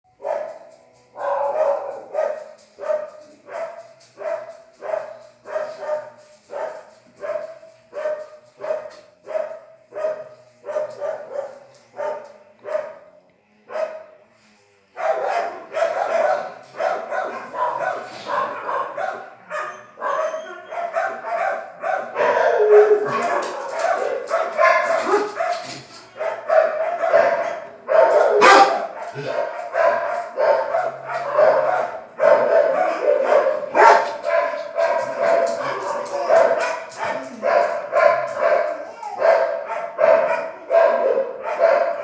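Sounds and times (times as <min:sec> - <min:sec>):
dog barking: 0:00.2 - 0:14.1, 0:15.0 - 0:42.0.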